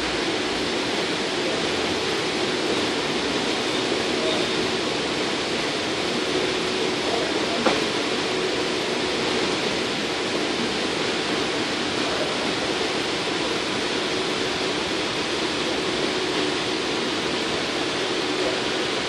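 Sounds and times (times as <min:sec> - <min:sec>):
train car running: 0:00.0 - 0:19.0.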